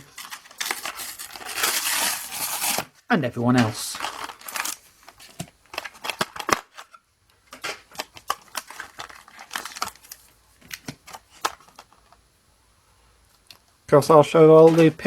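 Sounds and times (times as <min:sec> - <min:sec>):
plastic packaging crackling: 0:00.0 - 0:12.1.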